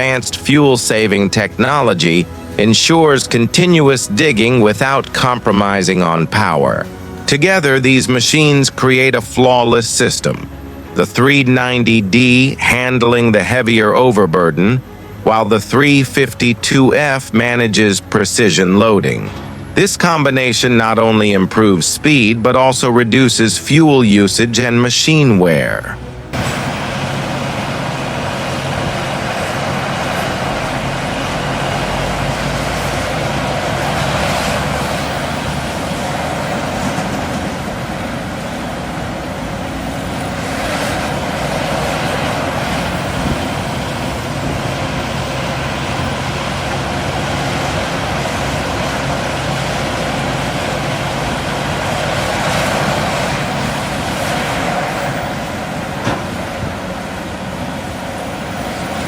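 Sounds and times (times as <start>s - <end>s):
broad rushing noise: 0.0s - 59.0s
diesel engine drone: 0.0s - 59.0s.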